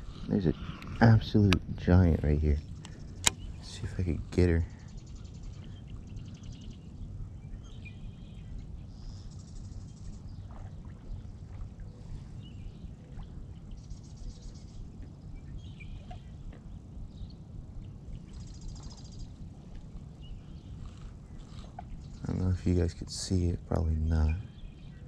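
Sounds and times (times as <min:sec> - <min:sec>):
birds chirping and trilling: 0:00.0 - 0:25.0
wind rumbling on microphone: 0:00.0 - 0:25.0.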